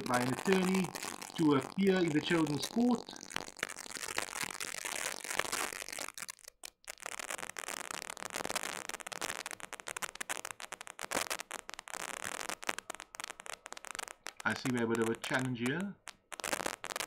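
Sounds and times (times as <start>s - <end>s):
crackling broken-up call audio: 0.0s - 17.0s.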